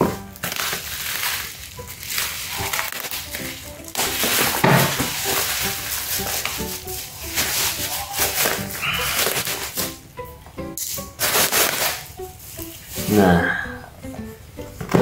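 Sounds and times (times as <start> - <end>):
plastic mailer crinkling: 0.0 - 10.0, 10.8 - 13.2
background music: 0.0 - 15.0.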